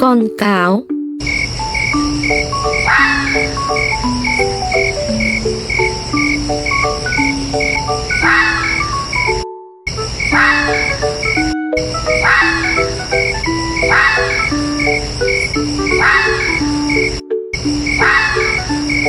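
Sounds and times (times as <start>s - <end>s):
slow tune of held notes: 0.0s - 19.0s
steady repeating chirp: 0.2s - 19.0s.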